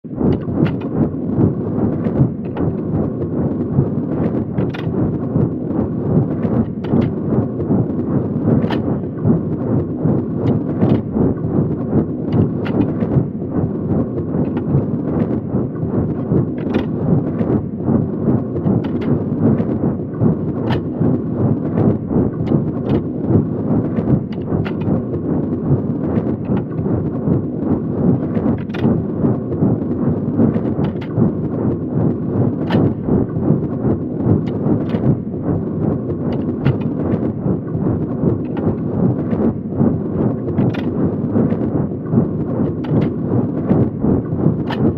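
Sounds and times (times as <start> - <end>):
train rumbling: 0.1 - 44.9.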